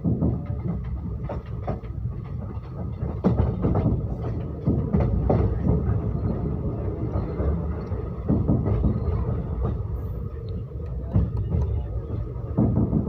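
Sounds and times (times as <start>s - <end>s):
train rumbling on rails: 0.0s - 13.0s
train wheels clacking: 0.0s - 13.0s.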